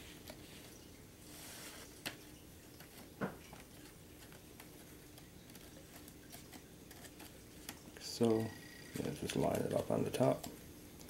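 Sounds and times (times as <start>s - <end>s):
fingers handling wooden strip: 1.5s - 10.6s.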